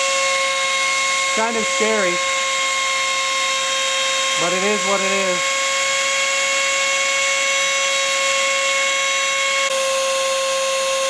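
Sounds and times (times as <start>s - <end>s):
high-pitched motor whine: 0.0s - 11.0s.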